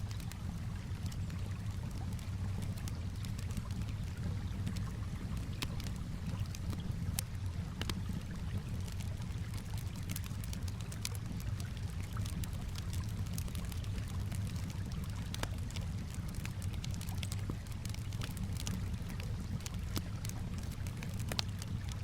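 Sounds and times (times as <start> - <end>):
calm water lapping: 0.0 - 22.0
campfire crackling and popping: 0.0 - 22.0.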